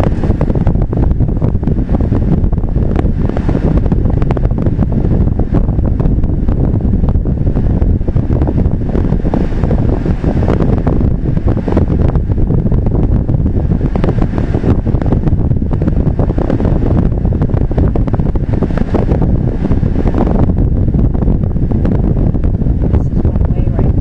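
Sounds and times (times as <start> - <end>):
car road and wind rumble: 0.0 - 24.0.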